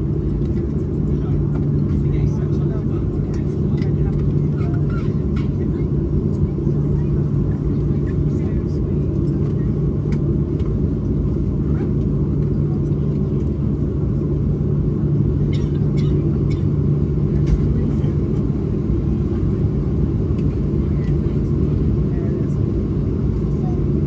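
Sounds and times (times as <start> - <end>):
jet engine rumble in cabin: 0.0 - 24.0.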